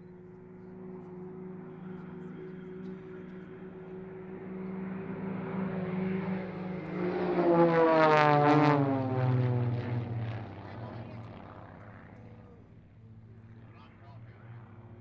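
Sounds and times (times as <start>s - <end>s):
propeller planes passing overhead: 0.0s - 15.0s.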